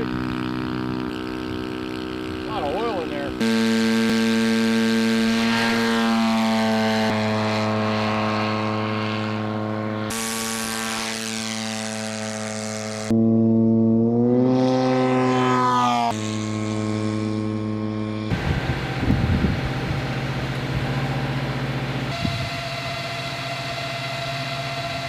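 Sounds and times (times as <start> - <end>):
aircraft engine and propeller: 0.0 - 25.0.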